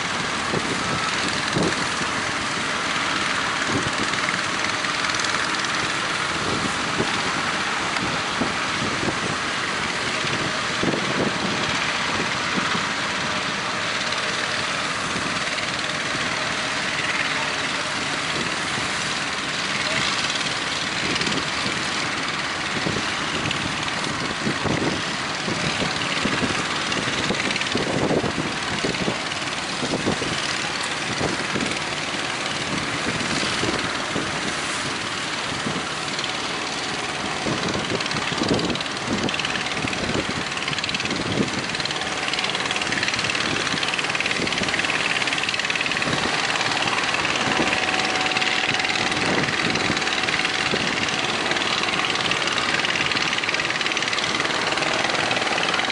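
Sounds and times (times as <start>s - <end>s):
boat engines running: 0.0s - 55.9s.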